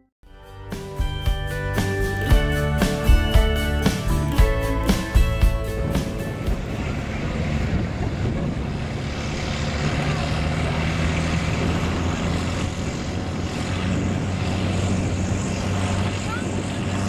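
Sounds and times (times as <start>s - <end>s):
tractor engine under heavy load: 0.6s - 17.0s.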